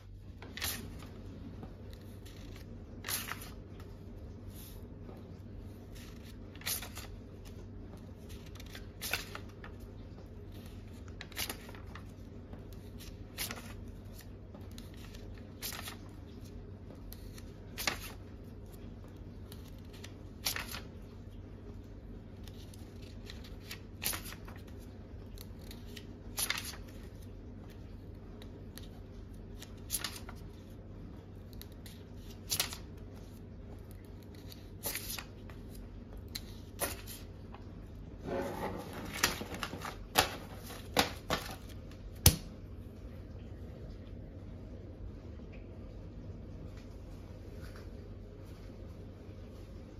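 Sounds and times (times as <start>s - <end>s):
banknotes rustling: 0.1s - 42.2s.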